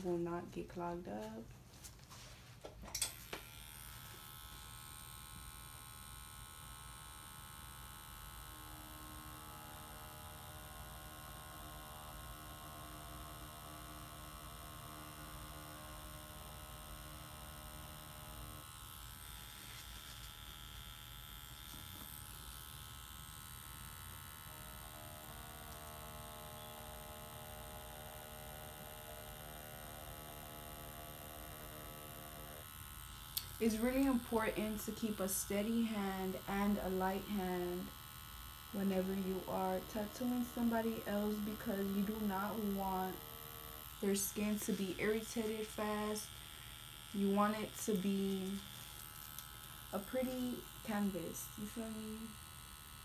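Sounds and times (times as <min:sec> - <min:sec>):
tattoo machine buzzing: 0:02.8 - 0:53.0.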